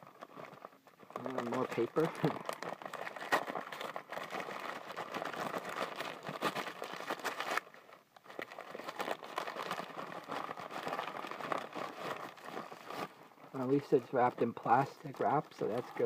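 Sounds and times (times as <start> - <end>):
newspaper crinkling: 0.0 - 16.0.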